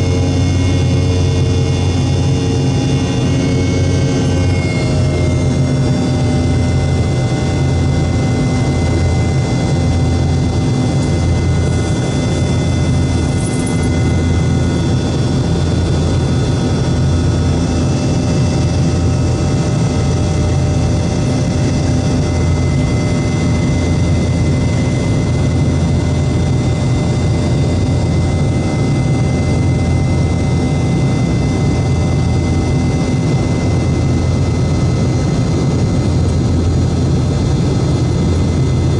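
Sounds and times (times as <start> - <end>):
jet engine rumble in cabin: 0.0 - 38.9
whining fan tones: 0.0 - 38.9.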